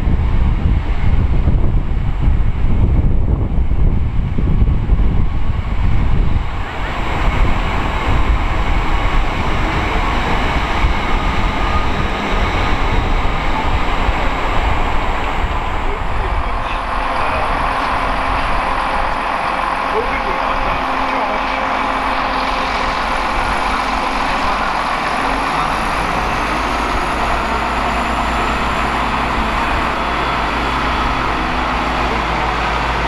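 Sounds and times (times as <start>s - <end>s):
train running gear rumble: 0.0s - 33.0s.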